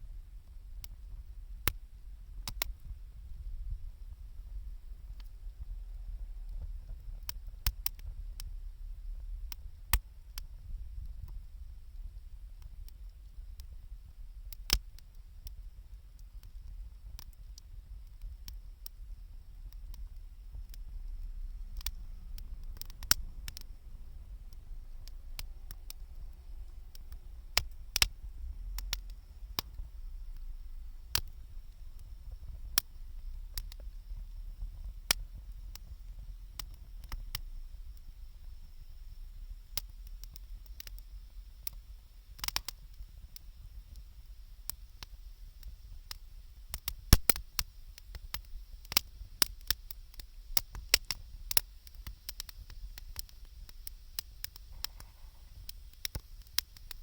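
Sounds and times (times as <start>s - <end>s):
steady low rumble: 0.0s - 47.9s
wood fire crackling and popping: 0.4s - 57.0s.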